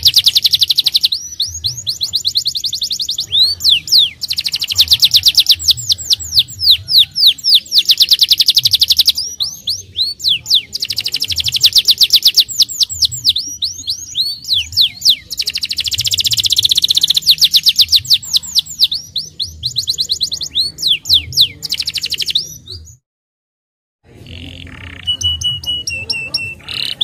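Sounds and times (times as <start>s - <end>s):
canary singing trills and chirps: 0.0s - 23.0s, 24.1s - 27.0s.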